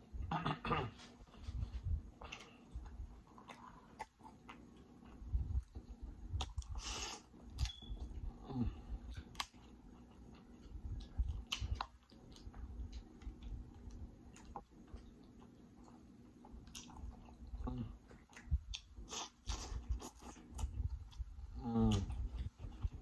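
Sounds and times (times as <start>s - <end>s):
chewing and wet mouth sounds: 1.3s - 23.0s.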